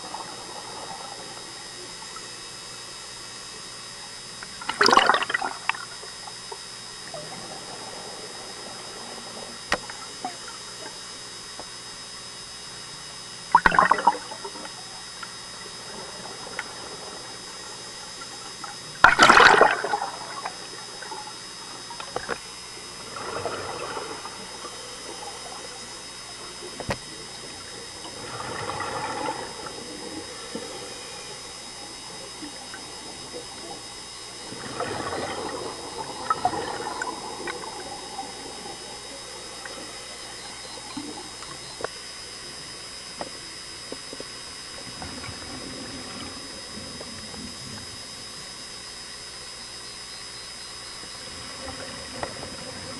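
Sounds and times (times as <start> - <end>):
faint steady high whine: 0.0 - 52.9
underwater exhaust bubbles: 0.0 - 52.9.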